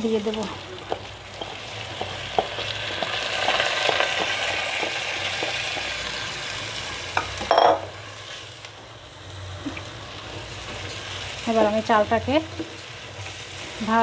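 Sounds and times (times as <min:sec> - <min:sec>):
rice sizzling in hot oil: 0:00.0 - 0:14.0.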